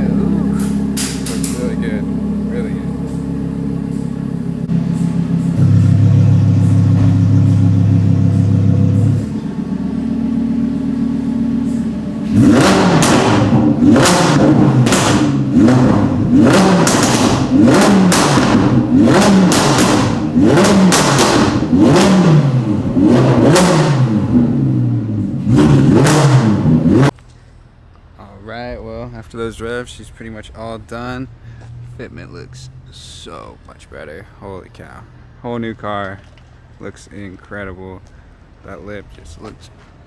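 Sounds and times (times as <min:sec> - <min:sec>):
car engine idling: 0:00.0 - 0:40.0
car engine revving: 0:00.0 - 0:40.0.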